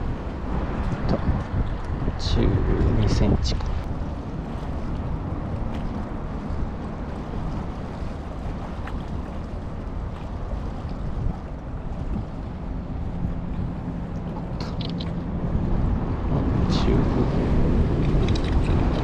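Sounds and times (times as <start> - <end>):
choppy water: 0.0 - 19.0
wind blowing across microphone: 0.0 - 19.0.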